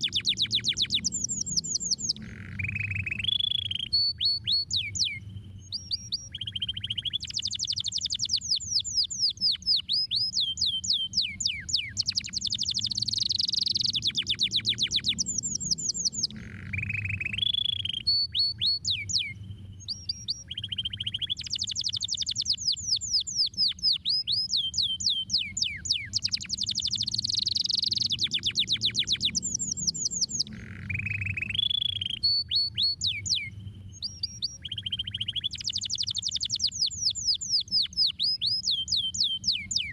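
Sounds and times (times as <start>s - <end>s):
canary singing trills: 0.0s - 39.9s
faint low hum: 0.0s - 39.9s.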